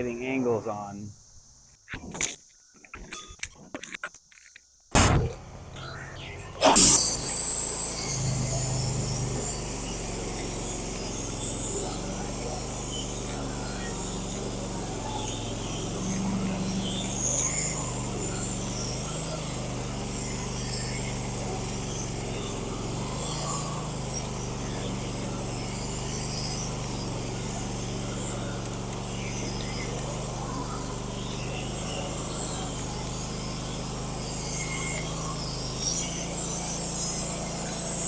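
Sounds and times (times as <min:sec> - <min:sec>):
bandsaw cutting log: 0:06.6 - 0:38.0.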